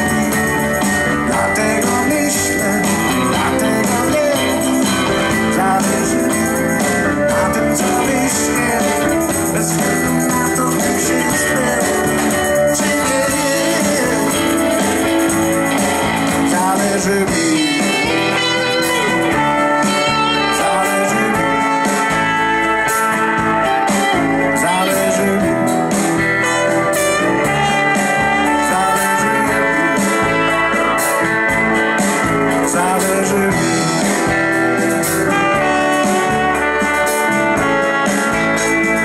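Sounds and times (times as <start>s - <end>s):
live band playing: 0.0s - 39.0s.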